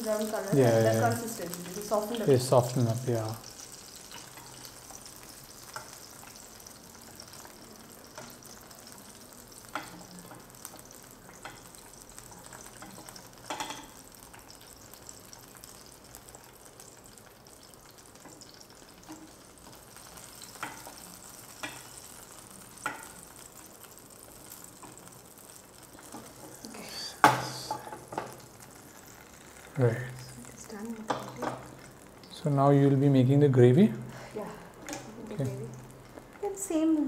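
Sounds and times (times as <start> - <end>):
gourds sizzling in frying oil: 0.0 - 37.0.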